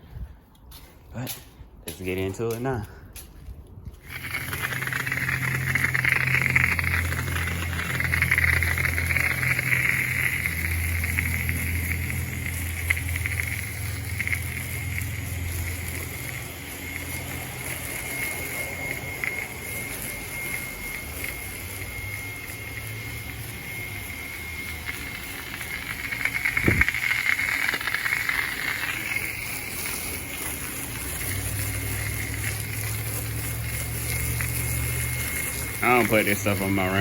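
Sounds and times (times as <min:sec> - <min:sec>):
machine hum and whine: 0:00.0 - 0:37.0
pressure washer spraying water: 0:04.0 - 0:37.0.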